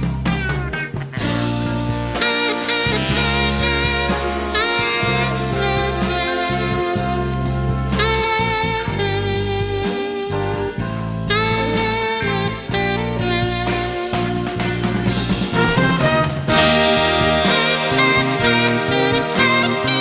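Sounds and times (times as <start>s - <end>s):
bass: 0.0s - 20.0s
drums: 0.0s - 20.0s
saxophone melody: 1.2s - 14.6s, 15.5s - 20.0s.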